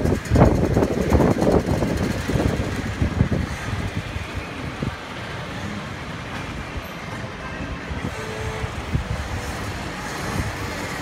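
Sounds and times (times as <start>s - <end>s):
go-kart engines buzzing: 0.0s - 11.0s
street traffic rumble: 0.0s - 11.0s.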